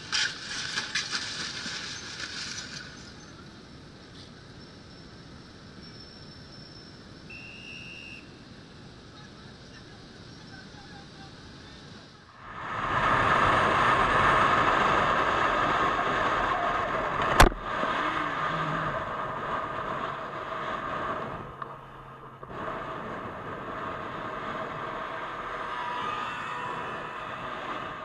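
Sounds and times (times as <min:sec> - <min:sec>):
vehicle road and wind noise: 0:00.0 - 0:28.0.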